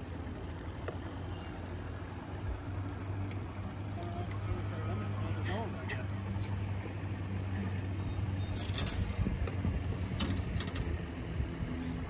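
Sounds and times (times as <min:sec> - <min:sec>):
boat motor humming: 0:00.0 - 0:12.0
wind: 0:00.0 - 0:12.0.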